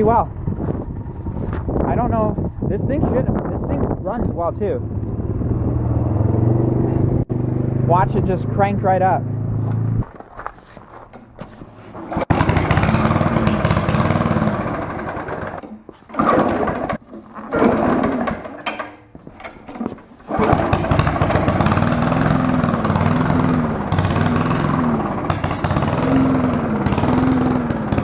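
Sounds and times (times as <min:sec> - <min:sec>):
lawnmower engine sputtering and surging: 0:00.0 - 0:03.3, 0:04.4 - 0:10.0, 0:11.8 - 0:19.0, 0:19.7 - 0:28.0.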